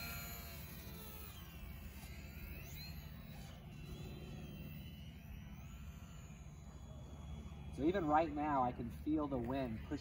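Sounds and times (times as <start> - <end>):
model plane motor whine: 0.0 - 10.0.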